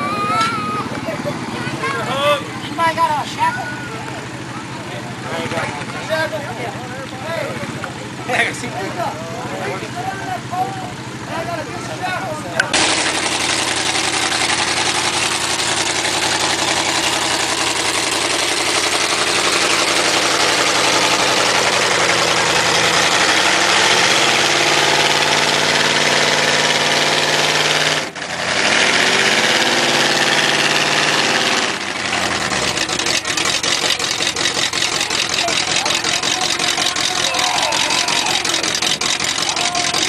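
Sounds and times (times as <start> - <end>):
truck engine revving under load: 0.0 - 40.0.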